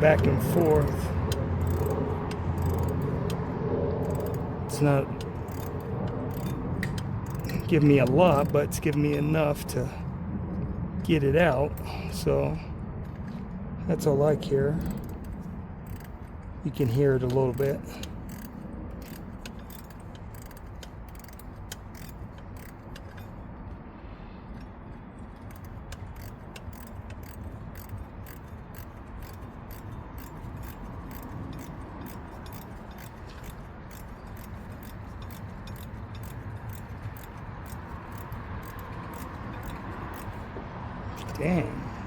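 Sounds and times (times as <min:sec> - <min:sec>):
ratcheting wrench clicking: 0:00.0 - 0:09.4, 0:14.7 - 0:23.7, 0:24.6 - 0:41.4
steady low hum: 0:00.0 - 0:42.0.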